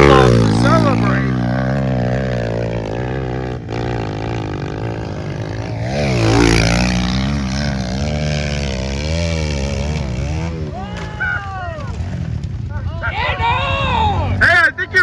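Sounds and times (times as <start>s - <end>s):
pit bike engine revving: 0.0s - 12.7s.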